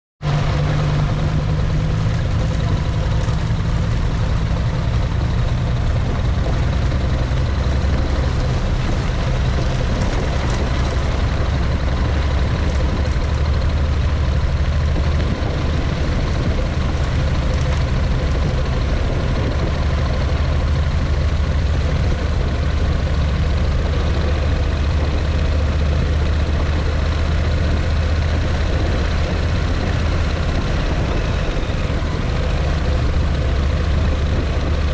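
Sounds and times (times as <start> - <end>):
constant rumbling noise: 0.2 - 34.9
vehicle engine running: 0.2 - 34.9.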